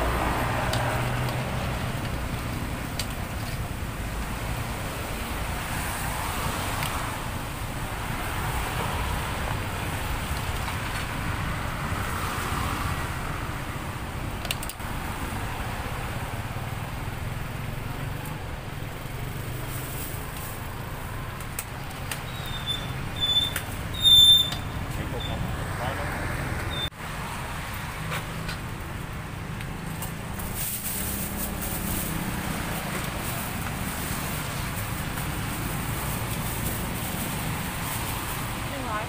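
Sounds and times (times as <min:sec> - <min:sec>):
roadside traffic: 0:00.0 - 0:39.0.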